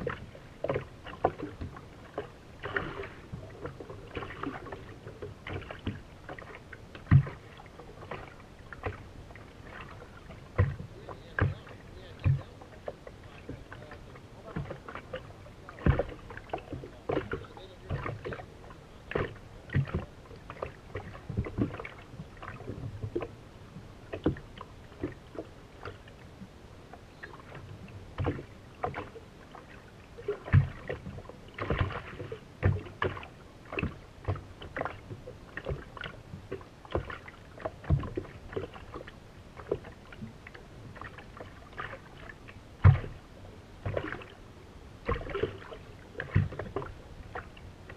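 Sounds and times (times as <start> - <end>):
small waves slapping boat hull: 0.0 - 47.9.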